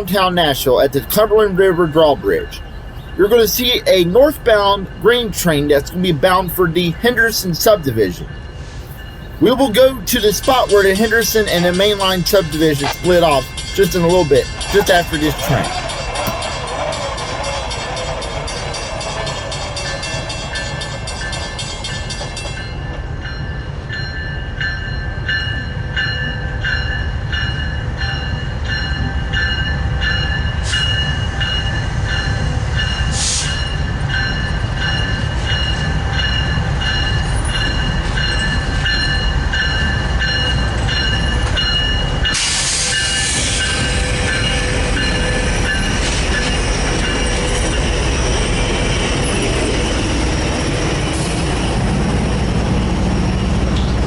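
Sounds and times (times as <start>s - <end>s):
freight train wheels clicking: 0.0s - 23.6s, 28.8s - 54.0s
low train rumble: 0.0s - 54.0s.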